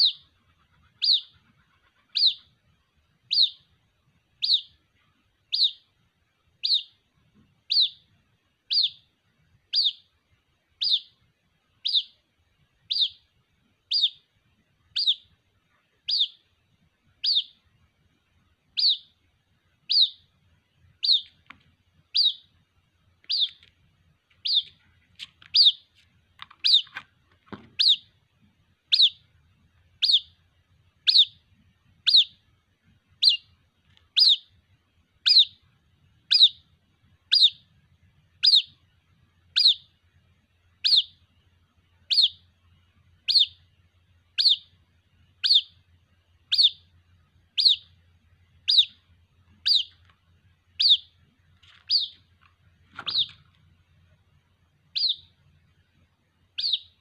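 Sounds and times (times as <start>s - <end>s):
bird chick peeping: 0.0s - 17.9s, 18.5s - 57.0s.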